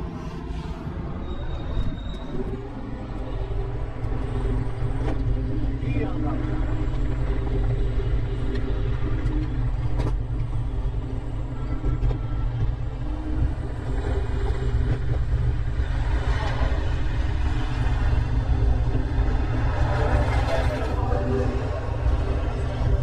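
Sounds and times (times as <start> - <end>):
wind and road noise rumble: 0.0 - 23.0.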